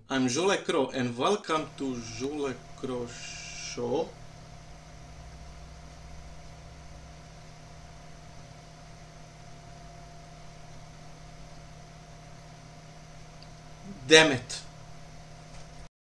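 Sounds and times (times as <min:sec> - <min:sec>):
computer fans humming: 0:00.0 - 0:15.9.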